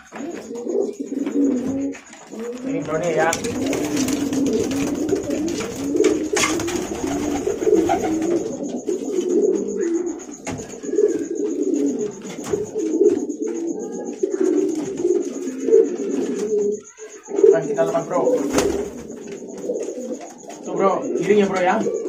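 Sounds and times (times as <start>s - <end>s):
pigeons cooing: 0.0s - 22.0s
wings flapping: 1.2s - 17.2s, 17.8s - 20.6s.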